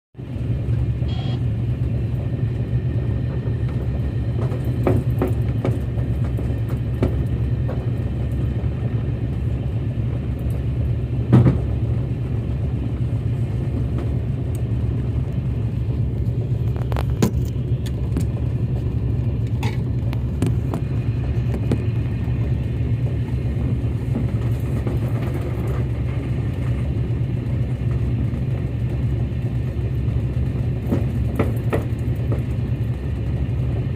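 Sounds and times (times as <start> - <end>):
boat engine droning: 0.2 - 33.9.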